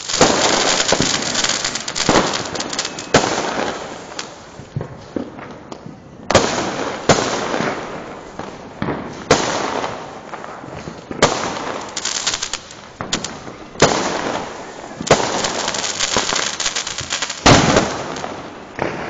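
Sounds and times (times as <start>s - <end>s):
fireworks bursting: 0.0s - 19.0s
fireworks crackling: 0.0s - 19.0s.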